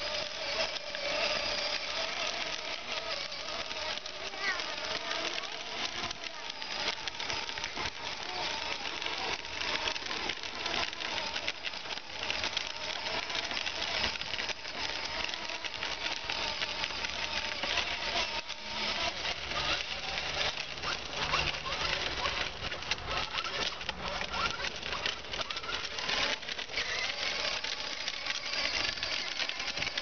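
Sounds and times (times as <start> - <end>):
electric toy motor whine: 0.0 - 30.0
plastic wheels rattling on asphalt: 0.0 - 30.0.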